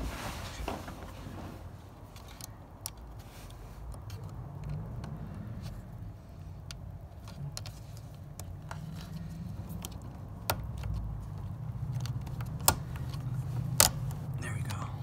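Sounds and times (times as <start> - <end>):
plastic clip clicks and scrapes: 2.1 - 14.4.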